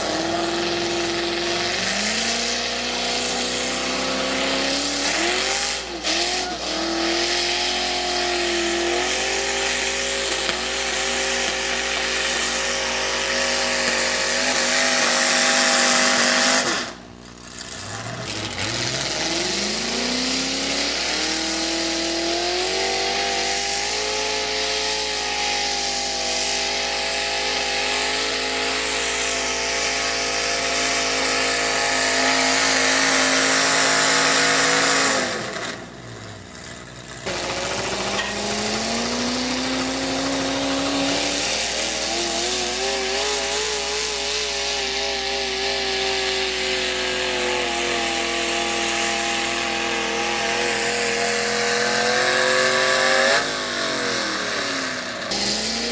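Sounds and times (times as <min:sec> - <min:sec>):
tractor engines revving under load: 0:00.0 - 0:55.9.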